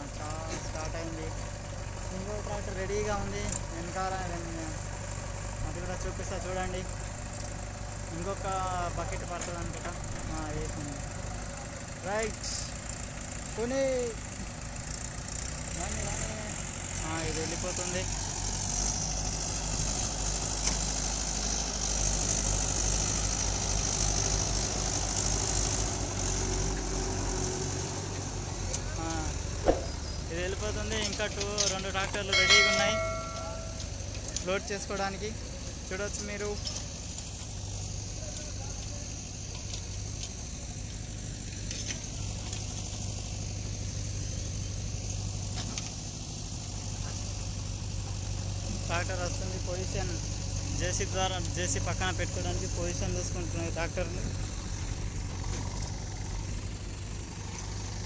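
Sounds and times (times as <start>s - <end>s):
tractor diesel engine running: 0.0s - 34.4s, 36.8s - 58.0s.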